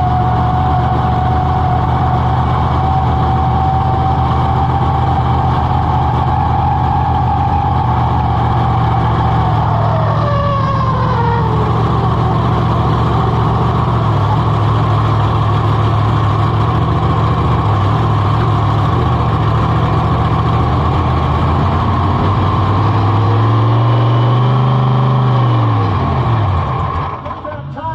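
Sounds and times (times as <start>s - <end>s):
monster truck engine revving: 0.0s - 27.7s.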